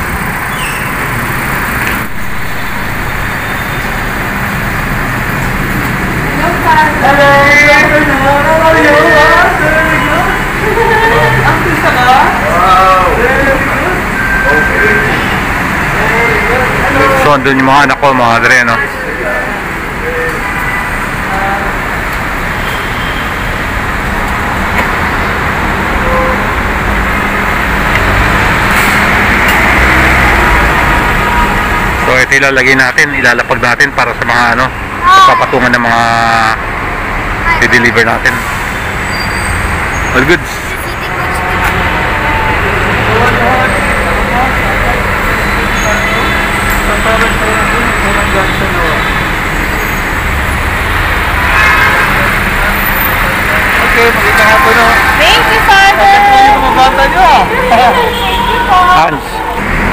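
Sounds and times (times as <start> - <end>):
vehicle engine rumble: 0.0 - 17.5, 18.8 - 35.0, 36.5 - 59.9
car road noise: 0.0 - 59.9.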